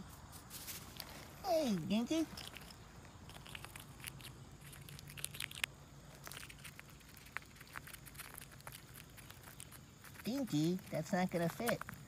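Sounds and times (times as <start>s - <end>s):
chipmunk nibbling nuts: 0.0s - 12.0s.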